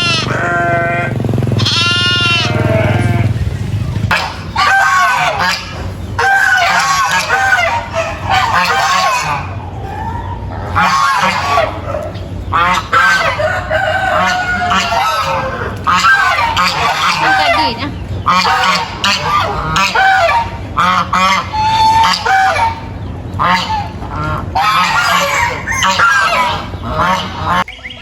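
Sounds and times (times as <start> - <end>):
farm animals calling: 0.0 - 28.0.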